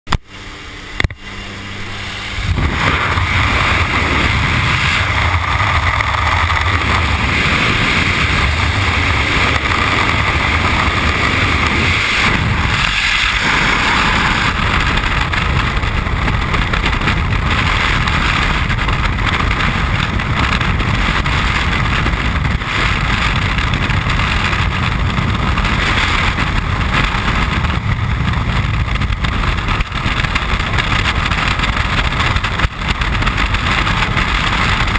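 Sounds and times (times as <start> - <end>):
wind blasting over microphone: 0.2 - 34.9.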